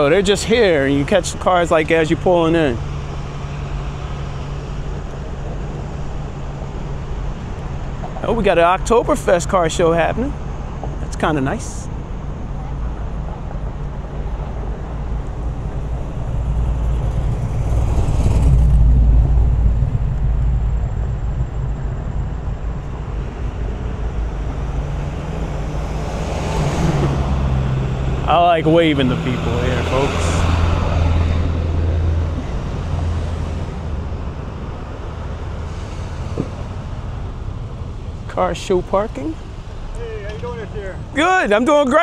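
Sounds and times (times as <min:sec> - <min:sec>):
vehicle rumbling along road: 0:00.0 - 0:42.0.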